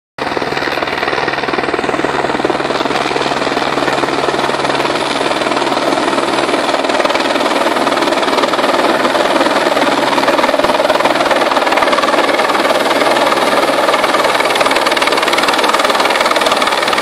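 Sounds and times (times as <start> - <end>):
helicopter rotor blades chopping: 0.2 - 17.0.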